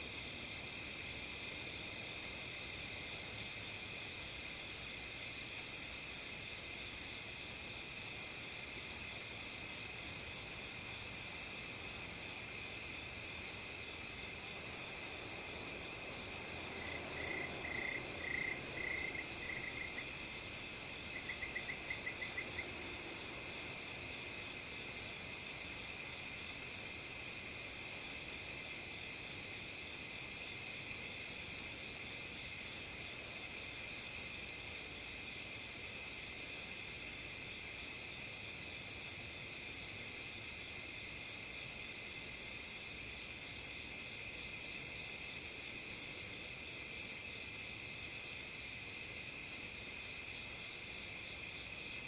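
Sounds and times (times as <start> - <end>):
crickets trilling: 0.0 - 52.0
loud cricket chirps: 0.0 - 52.0.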